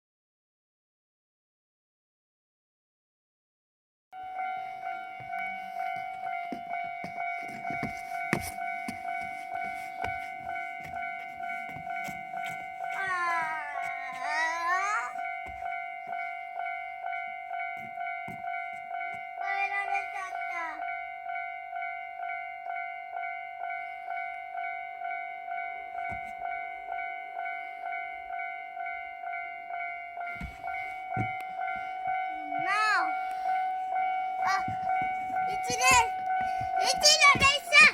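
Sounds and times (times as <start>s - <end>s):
level-crossing warning bell ringing: 4.2s - 37.9s.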